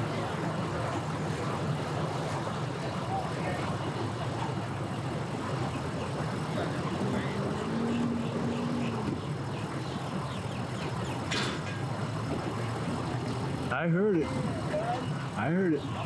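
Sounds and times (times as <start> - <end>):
engines rumbling: 0.0 - 16.0.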